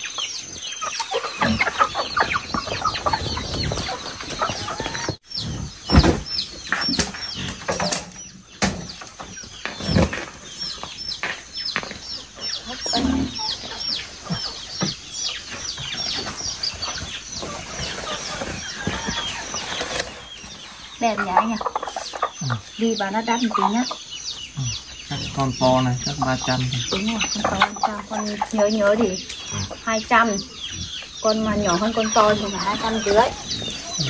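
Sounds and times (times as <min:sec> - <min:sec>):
birds scuffling: 0:00.0 - 0:34.0
chickens clucking and squawking: 0:00.0 - 0:34.0.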